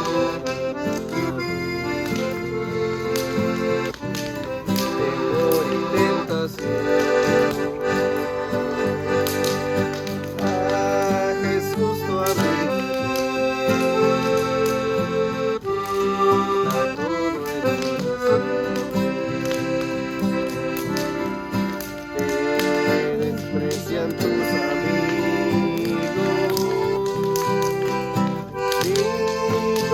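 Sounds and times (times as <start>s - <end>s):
accordion melody: 0.0s - 29.9s.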